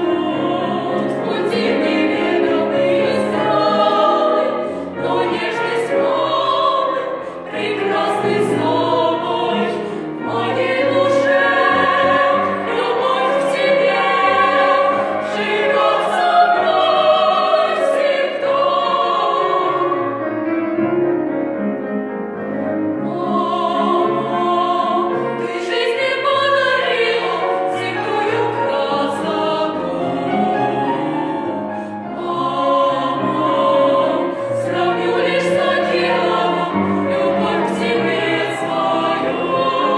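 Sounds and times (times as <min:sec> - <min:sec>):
vocal ensemble singing: 0:00.0 - 0:20.5, 0:22.6 - 0:39.9
piano accompaniment: 0:00.0 - 0:39.9.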